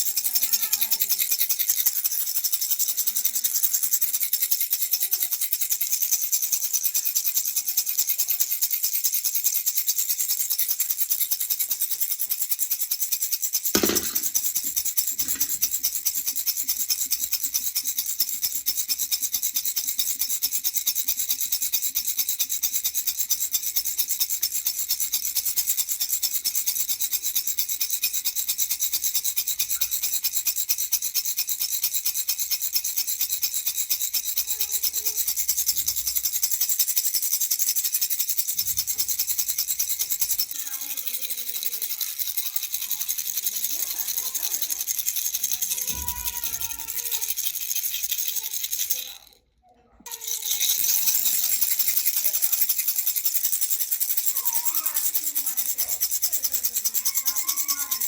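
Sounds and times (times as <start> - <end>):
baby rattle shaking: 0.0 - 58.0.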